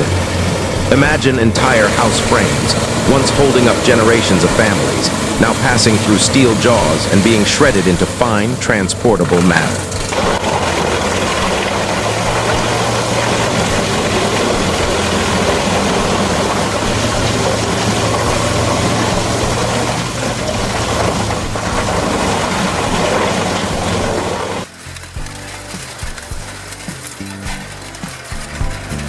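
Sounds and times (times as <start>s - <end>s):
shredding machine engine hum: 0.0s - 29.0s.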